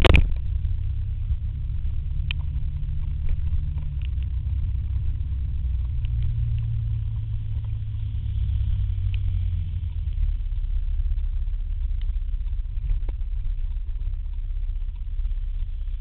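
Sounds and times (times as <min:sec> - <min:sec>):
faint ticks: 0:00.0 - 0:09.4, 0:10.0 - 0:15.8
wind on microphone: 0:00.0 - 0:14.3
scooter engine rumble: 0:00.0 - 0:16.0.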